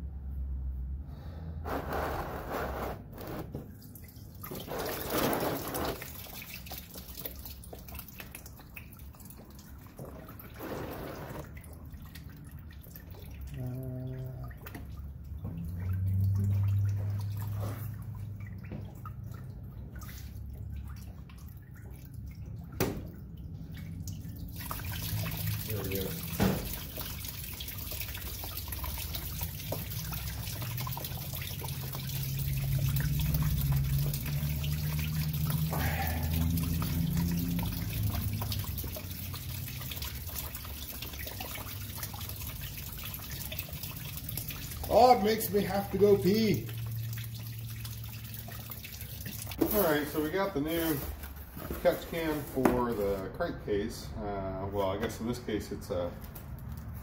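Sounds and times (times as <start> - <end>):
coolant dripping and trickling: 3.1 - 57.0.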